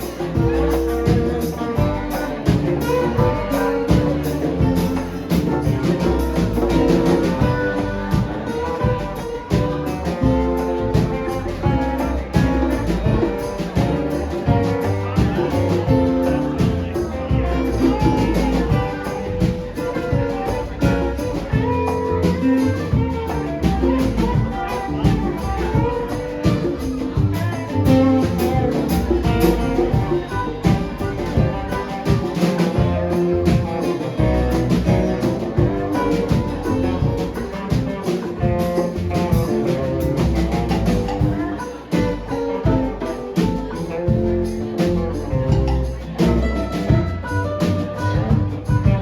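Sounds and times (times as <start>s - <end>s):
band playing music: 0.0s - 49.0s
guitar: 0.0s - 49.0s
steady drum beat: 0.0s - 49.0s.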